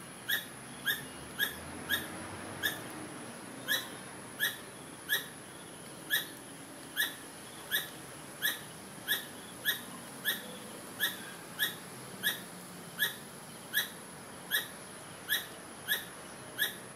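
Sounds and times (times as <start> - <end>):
squirrel calling: 0.1 - 16.9.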